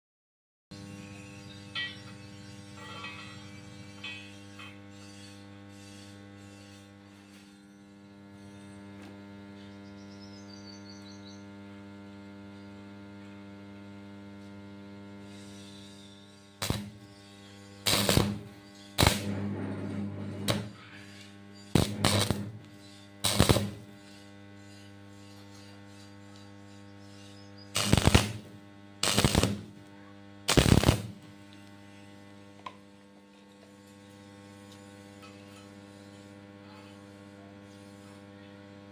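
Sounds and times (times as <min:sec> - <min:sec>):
stick welding arcs crackling: 0:00.8 - 0:07.8, 0:11.5 - 0:38.4
electrical mains hum: 0:07.7 - 0:38.9.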